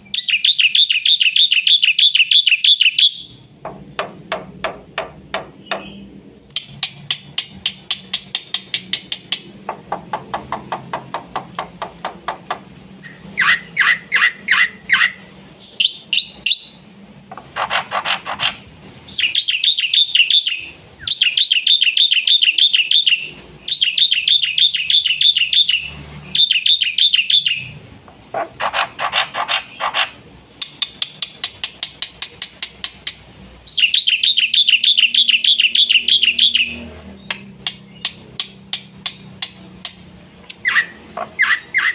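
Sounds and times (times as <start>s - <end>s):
starling singing: 0.0s - 3.5s, 4.3s - 27.8s, 28.4s - 41.9s.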